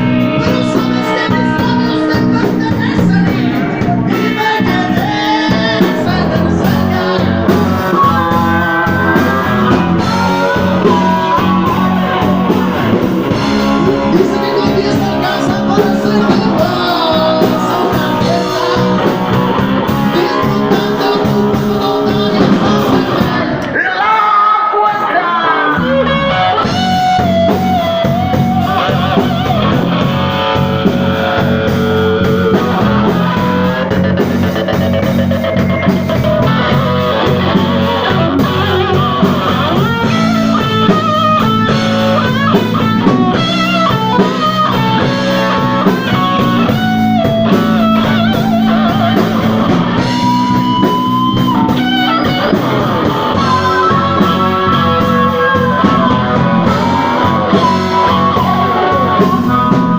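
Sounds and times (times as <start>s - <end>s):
bass and drums: 0.0s - 23.8s, 25.7s - 59.9s
electric guitar lines: 0.0s - 23.8s, 24.9s - 59.9s.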